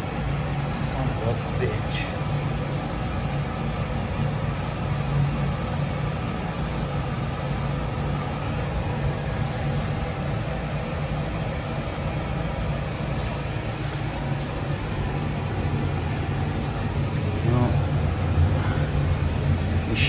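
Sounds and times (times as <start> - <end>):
boiler equipment humming: 0.0 - 20.0.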